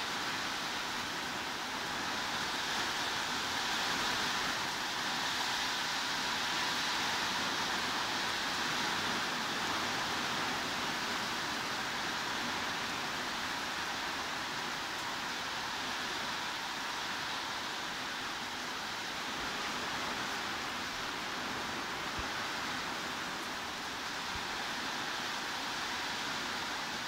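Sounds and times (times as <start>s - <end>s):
heavy rain hiss: 0.0s - 27.0s.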